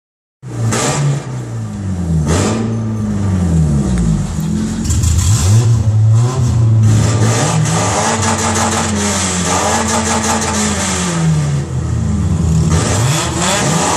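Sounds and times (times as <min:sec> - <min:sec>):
car engines revving: 0:00.4 - 0:13.9.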